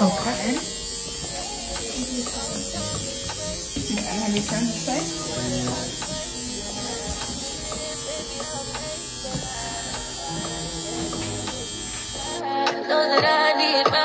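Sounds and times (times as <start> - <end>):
small motorised device buzzing: 0.0 - 12.4
faint music: 0.0 - 14.0.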